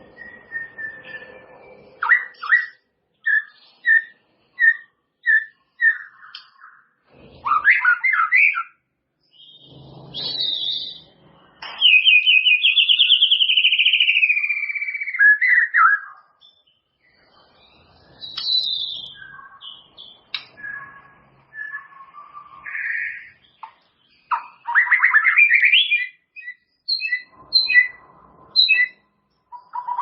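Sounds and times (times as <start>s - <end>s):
bird singing whistled notes and trills: 0.0s - 30.0s.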